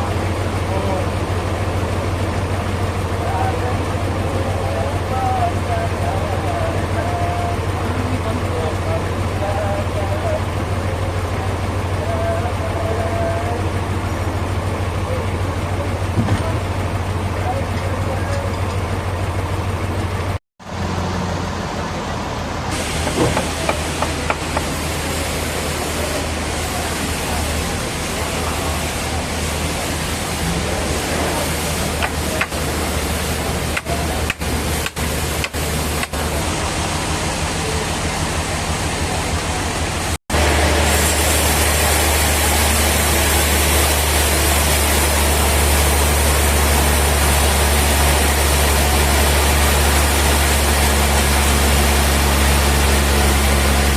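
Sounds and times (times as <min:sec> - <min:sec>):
sawmill machinery humming: 0:00.0 - 0:53.9.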